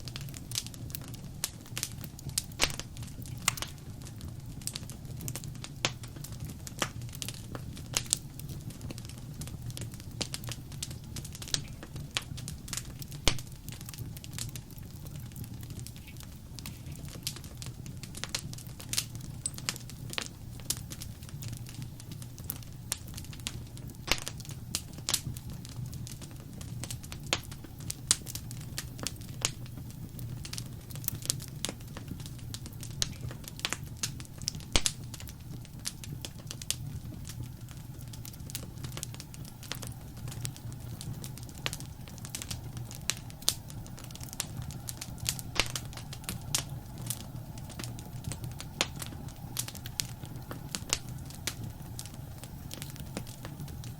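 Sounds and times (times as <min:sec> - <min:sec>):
low rumble of burning: 0:00.0 - 0:53.9
wood fire crackling: 0:00.0 - 0:53.9.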